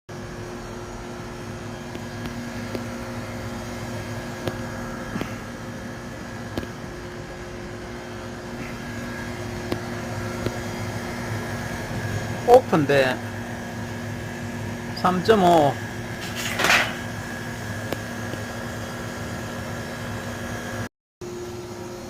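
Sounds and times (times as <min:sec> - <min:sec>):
refrigeration unit humming: 0:00.1 - 0:22.0.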